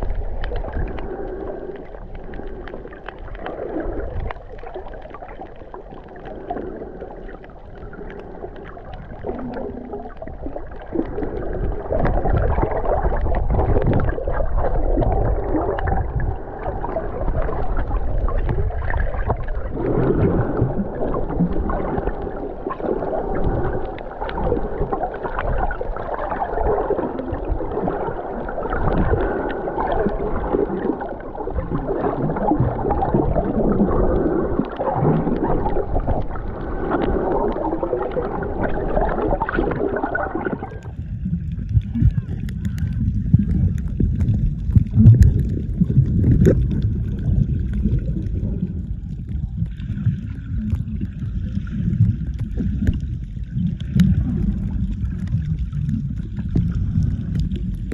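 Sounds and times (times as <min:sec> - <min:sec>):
underwater water rushing and gurgling: 0:00.0 - 0:57.9.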